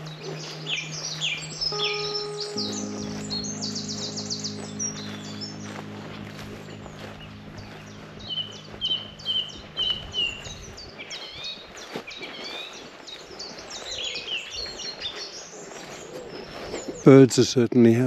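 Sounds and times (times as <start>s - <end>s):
songbirds singing: 0.0s - 17.1s.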